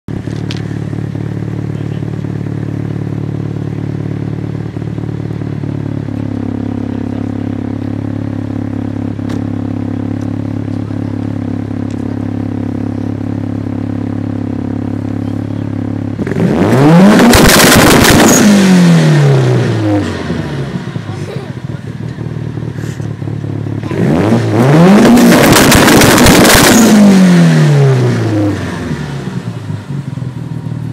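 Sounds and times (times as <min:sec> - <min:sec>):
car engine idling and revving: 0:00.1 - 0:30.9.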